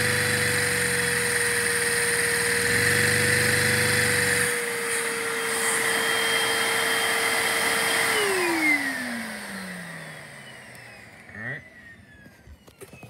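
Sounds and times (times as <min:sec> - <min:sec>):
motor spinning down: 0:00.0 - 0:13.0
vacuum cleaner whine: 0:00.0 - 0:13.0.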